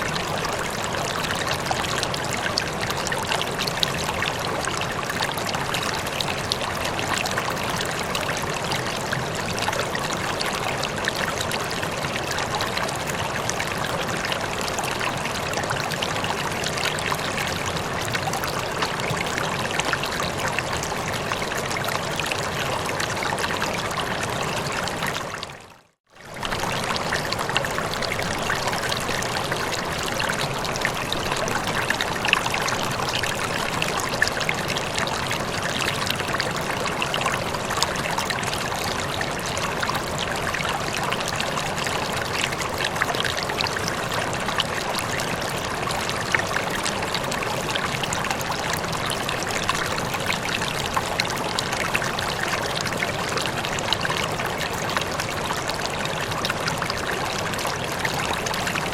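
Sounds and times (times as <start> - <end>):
stream trickling with small splashes: 0.0 - 58.9.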